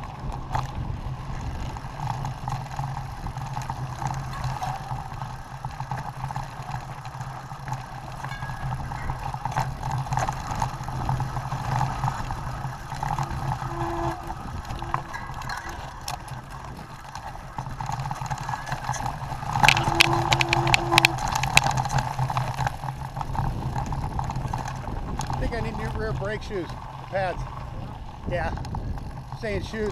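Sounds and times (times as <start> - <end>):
bike rattling over rough ground: 0.0 - 29.9
bike tyre rumble: 0.0 - 29.9.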